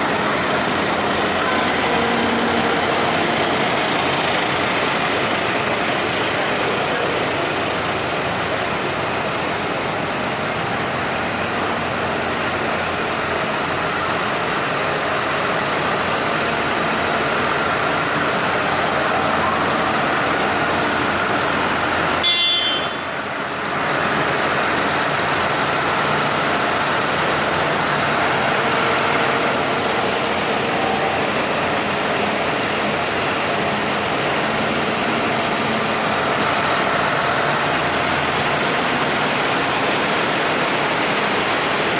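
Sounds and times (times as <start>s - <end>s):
tractor engines running: 0.0s - 41.9s.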